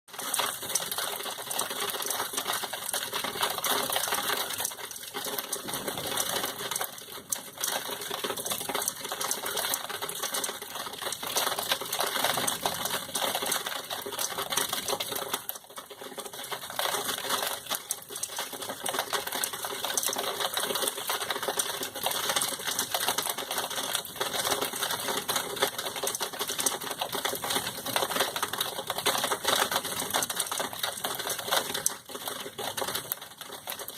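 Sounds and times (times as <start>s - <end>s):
rain pattering on hard surfaces: 0.1s - 33.9s.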